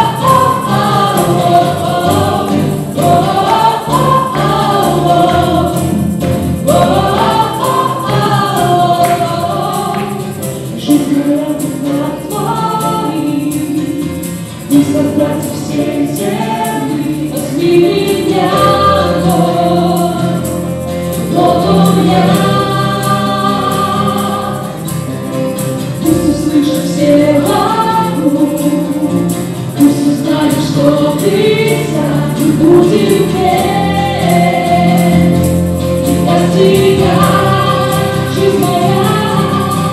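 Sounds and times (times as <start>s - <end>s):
acoustic guitar: 0.0s - 39.9s
electric guitar: 0.0s - 39.9s
keyboard: 0.0s - 39.9s
men and women singing: 0.0s - 39.9s.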